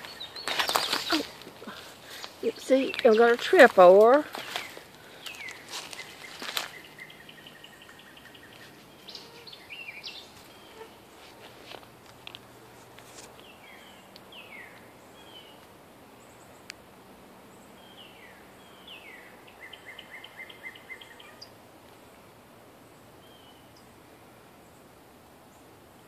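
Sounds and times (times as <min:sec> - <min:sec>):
faint steady background hiss: 0:00.0 - 0:26.0.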